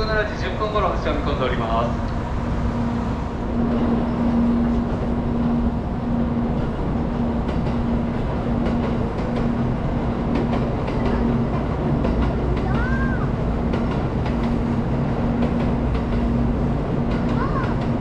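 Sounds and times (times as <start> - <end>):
electric train hum: 0.0 - 18.0
train rolling over tracks: 0.0 - 18.0.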